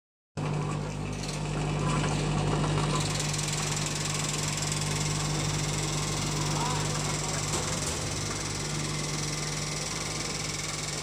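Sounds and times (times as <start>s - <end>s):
packaging machinery humming: 1.4s - 11.0s.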